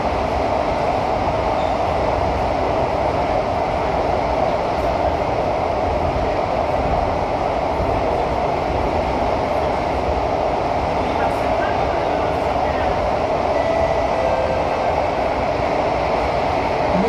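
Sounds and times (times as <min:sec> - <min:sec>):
metro train cabin rumble: 0:00.0 - 0:17.0.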